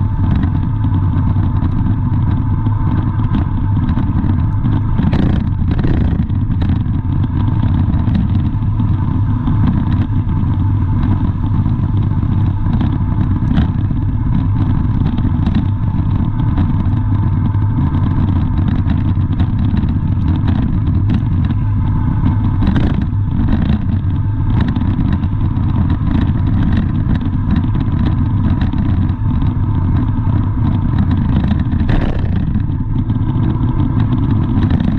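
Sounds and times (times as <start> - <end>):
vehicle running low rumble: 0.0 - 34.9.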